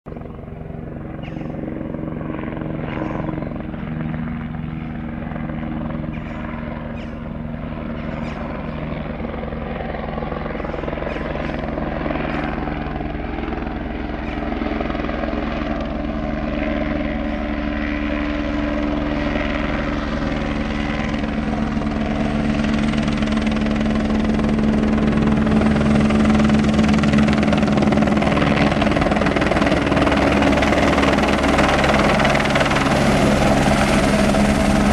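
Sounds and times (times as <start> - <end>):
helicopter rotor and turbine: 0.1 - 34.9.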